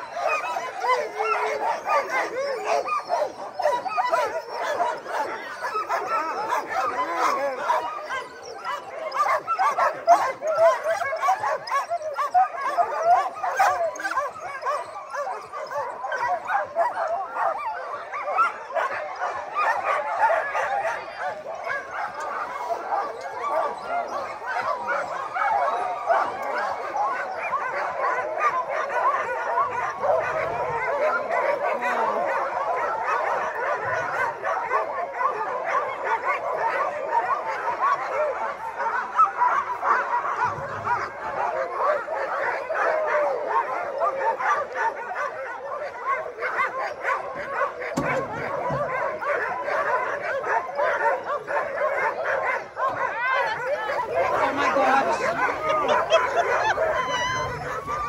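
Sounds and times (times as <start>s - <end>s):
sled dogs barking and yelping: 0.0s - 58.0s.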